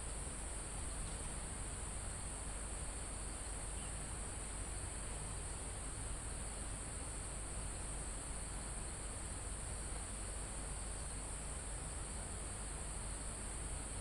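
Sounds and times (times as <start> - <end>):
crickets and insects droning: 0.0 - 14.0
wind in trees: 0.0 - 14.0.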